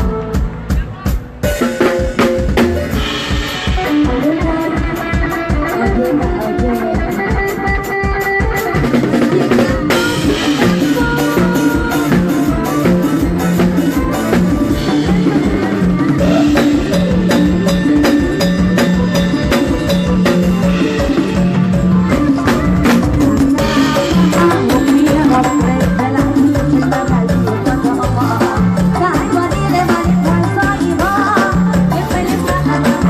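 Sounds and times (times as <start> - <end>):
drum kit steady beat: 0.0 - 33.0
live band playing: 0.0 - 33.0.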